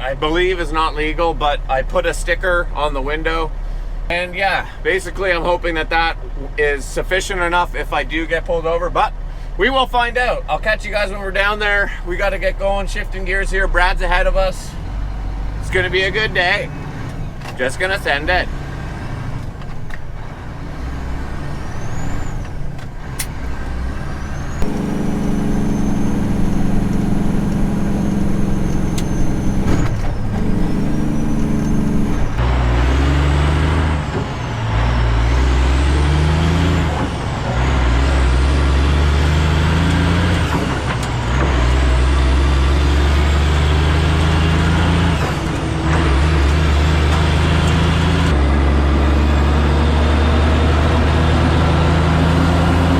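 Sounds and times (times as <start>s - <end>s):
diesel truck shifting gears: 0.0s - 52.9s.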